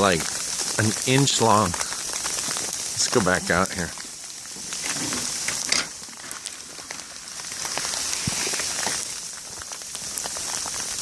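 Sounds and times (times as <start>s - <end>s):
sleet hissing and ticking: 0.0s - 11.0s.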